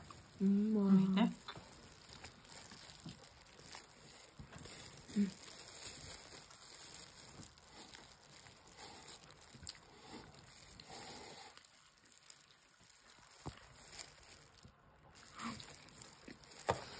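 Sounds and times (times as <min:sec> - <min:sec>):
rustling: 0:00.0 - 0:16.9.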